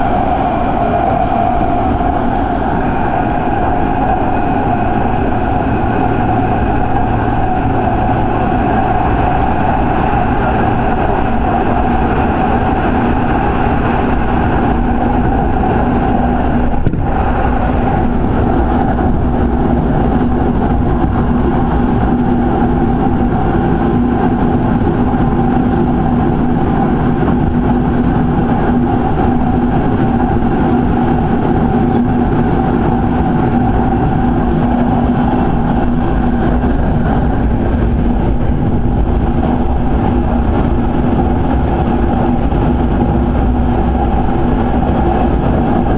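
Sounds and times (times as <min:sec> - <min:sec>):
motor and gear hum: 0:00.0 - 0:45.9
train wheels rumbling on rail: 0:00.0 - 0:45.9.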